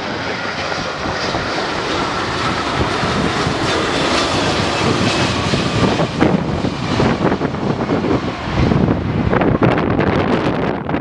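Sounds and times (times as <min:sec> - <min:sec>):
jet engines passing close: 0:00.0 - 0:11.0
wind buffeting microphone: 0:00.0 - 0:11.0.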